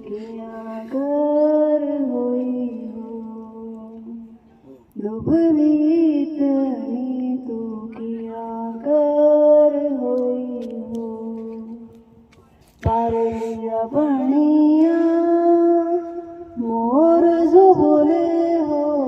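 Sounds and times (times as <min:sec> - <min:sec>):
woman singing wordless notes: 0:00.0 - 0:12.2, 0:12.8 - 0:19.0.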